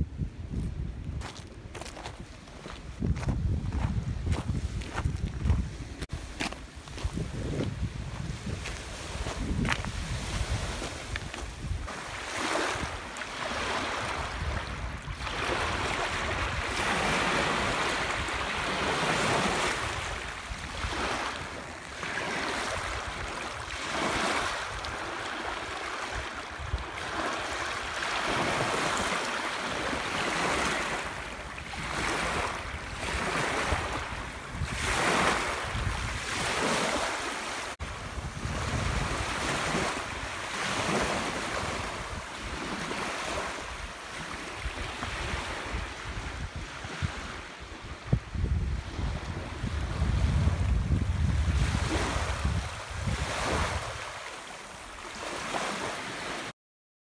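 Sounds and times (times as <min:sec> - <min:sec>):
waves washing over stony beach: 0:06.1 - 0:56.5.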